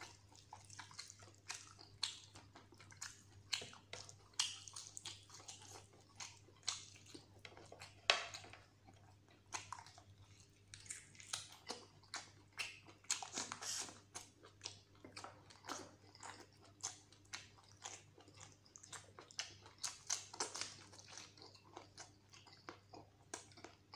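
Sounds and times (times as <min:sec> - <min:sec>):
man chewing food: 0:00.0 - 0:23.9.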